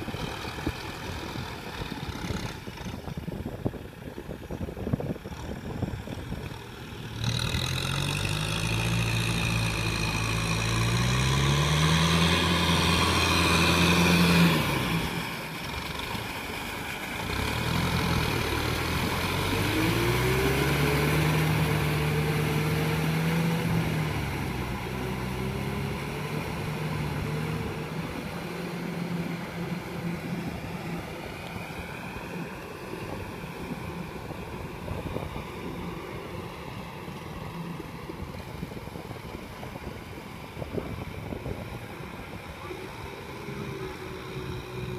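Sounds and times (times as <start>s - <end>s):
tractor diesel engine under load: 0.0s - 44.9s.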